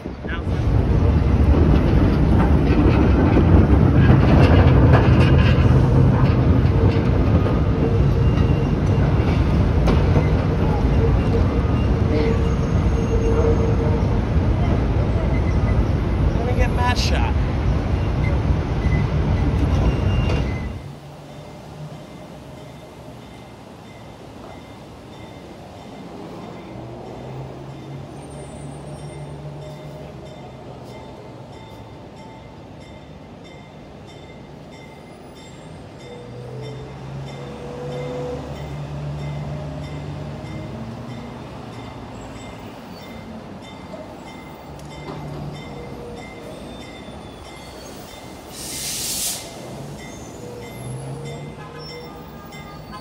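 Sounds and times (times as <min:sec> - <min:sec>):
diesel locomotive engine drone: 0:00.0 - 0:53.0.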